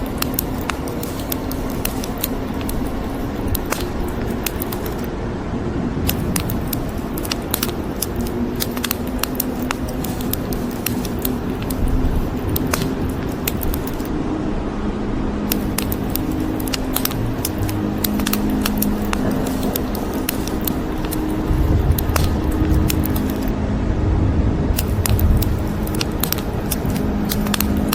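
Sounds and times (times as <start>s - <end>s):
wood fire crackling: 0.0s - 5.1s, 6.1s - 14.1s, 15.5s - 23.5s, 24.8s - 27.9s
rain hissing: 0.0s - 5.2s, 6.0s - 14.1s, 15.4s - 23.5s, 24.8s - 27.9s.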